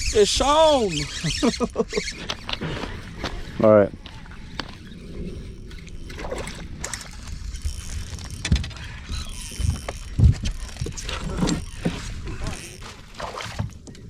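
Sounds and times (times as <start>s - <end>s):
water sloshing against hull: 0.0s - 14.0s.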